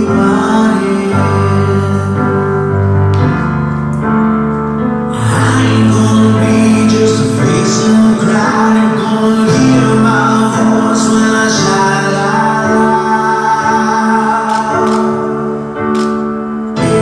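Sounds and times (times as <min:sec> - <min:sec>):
person singing: 0:00.0 - 0:03.4, 0:05.1 - 0:17.0
slow backing music: 0:00.0 - 0:17.0.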